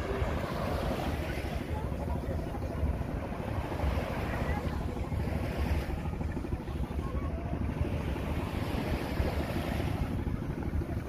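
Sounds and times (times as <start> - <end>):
small waves washing on beach: 0.0 - 11.0
wind buffeting microphone: 0.0 - 11.0.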